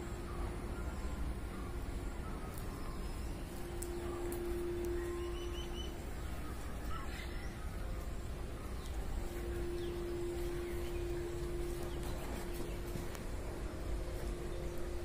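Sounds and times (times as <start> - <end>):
birds calling: 0.0 - 15.0
steady low hum: 0.0 - 15.0.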